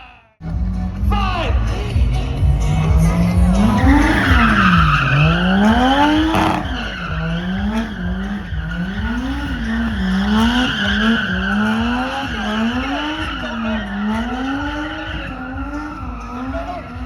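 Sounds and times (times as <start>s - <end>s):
car engine revving: 0.4s - 17.0s
tyres screeching: 2.7s - 17.0s.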